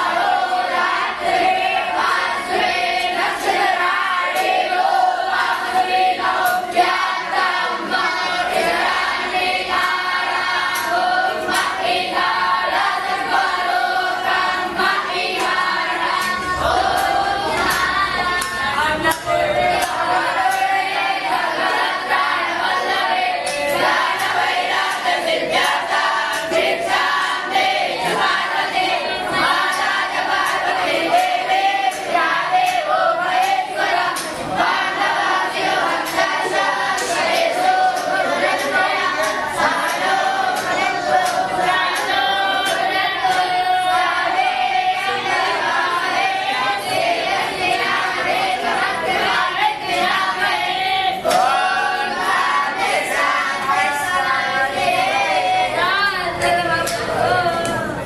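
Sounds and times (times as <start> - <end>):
group of voices chanting: 0.0 - 58.0.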